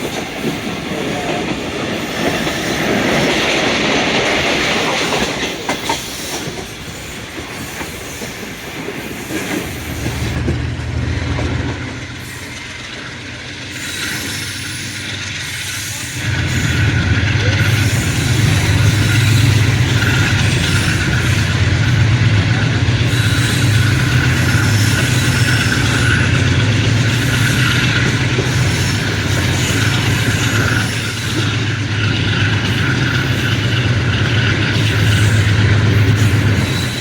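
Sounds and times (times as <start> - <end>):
diesel locomotive engine drone: 0.0 - 37.0
train wheels clacking on rails: 0.0 - 37.0.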